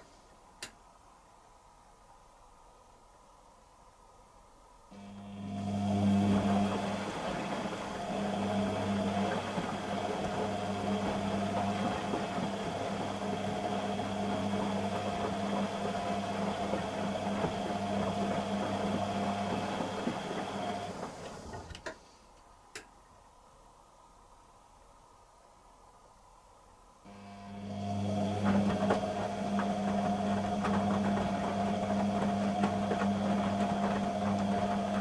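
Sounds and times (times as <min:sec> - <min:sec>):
washing machine humming: 0:00.0 - 0:24.1, 0:26.8 - 0:35.0.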